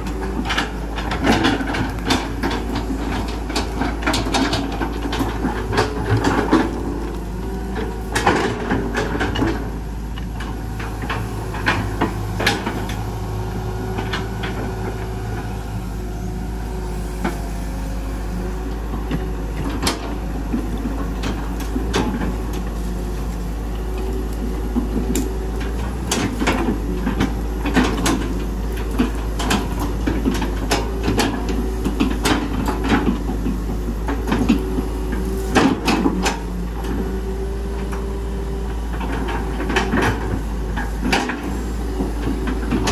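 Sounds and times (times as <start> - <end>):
diesel engine under load: 0.0 - 42.9
excavator bucket clanking: 0.0 - 42.9.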